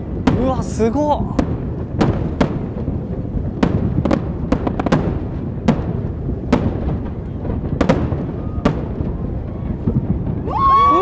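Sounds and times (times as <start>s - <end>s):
continuous low rumble: 0.0s - 11.0s
fireworks bangs: 0.0s - 11.0s.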